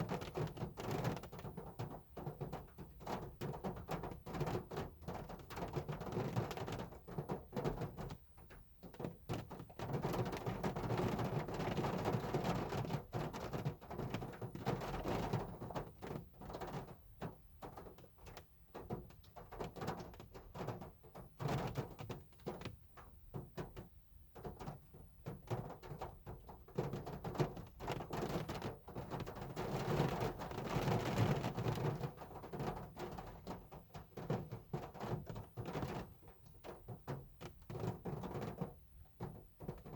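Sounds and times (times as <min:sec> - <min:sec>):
hard rain drumming on a car: 0:00.0 - 0:39.9.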